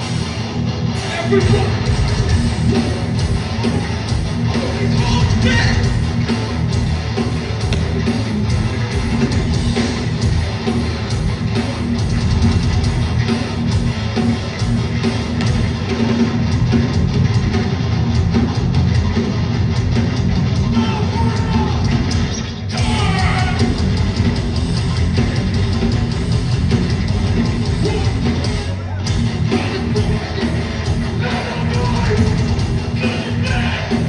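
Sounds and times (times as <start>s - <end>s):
live punk band playing: 0.0s - 34.0s.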